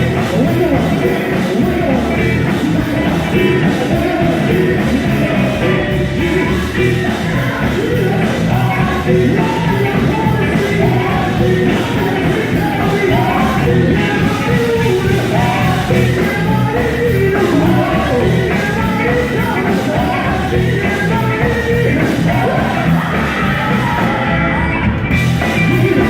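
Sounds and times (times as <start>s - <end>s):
loud band accompaniment: 0.0s - 26.0s
voices singing in harmony: 0.0s - 26.0s.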